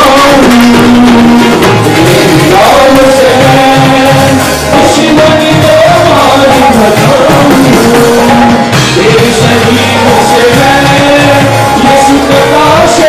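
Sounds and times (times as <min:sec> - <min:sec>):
drums: 0:00.0 - 0:13.0
group singing worship song: 0:00.0 - 0:13.0
keyboard: 0:00.0 - 0:13.0.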